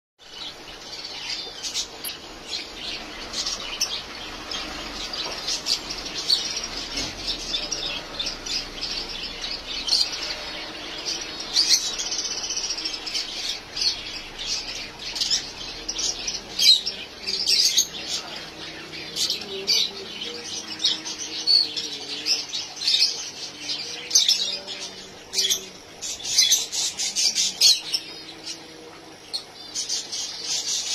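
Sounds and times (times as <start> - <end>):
lovebirds chirping and squawking: 0.2 - 30.9.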